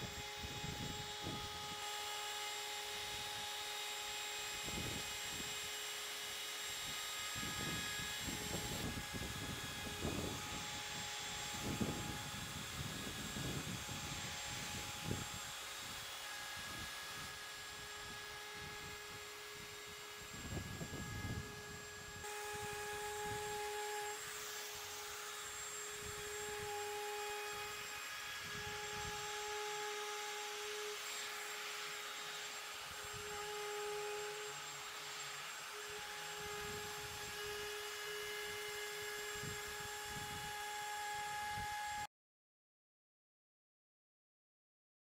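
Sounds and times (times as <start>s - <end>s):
router high whine: 0.0s - 42.1s.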